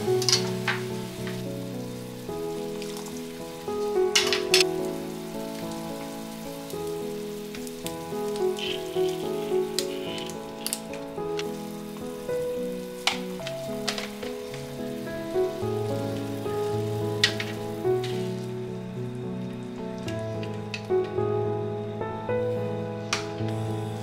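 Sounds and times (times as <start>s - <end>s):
food sizzling in a frying pan: 0.0s - 21.1s, 22.5s - 24.0s
soft background music: 0.0s - 24.0s.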